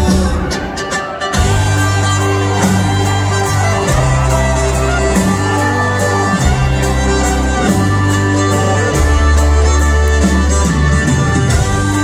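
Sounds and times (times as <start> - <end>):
fiddle: 0.0 - 12.0
bass line: 1.4 - 12.0.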